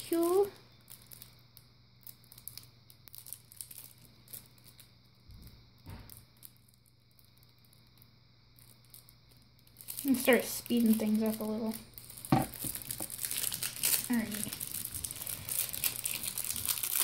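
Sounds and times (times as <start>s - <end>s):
low steady hum: 0.0s - 17.0s
packaging crinkling and tearing: 0.0s - 17.0s.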